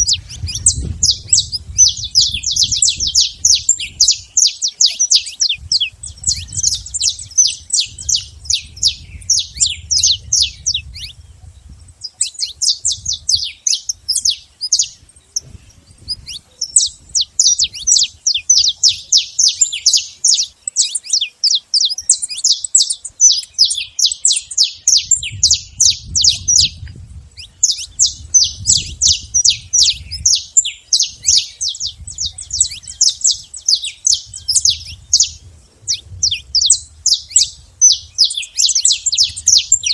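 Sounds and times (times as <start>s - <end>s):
finch singing rapid high chirps: 0.0s - 11.2s, 12.0s - 39.9s.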